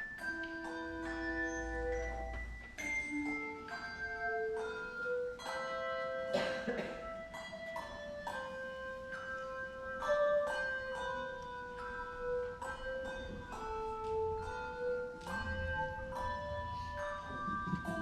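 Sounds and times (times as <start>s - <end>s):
handbells ringing a melody: 0.0s - 18.0s.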